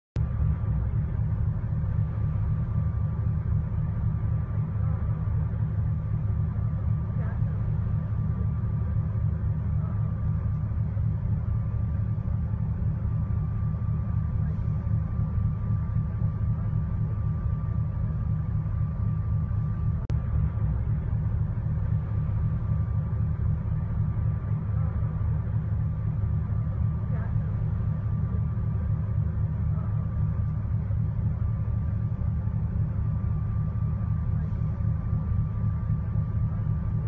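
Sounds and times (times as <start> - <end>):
bus engine idling: 0.2 - 37.0.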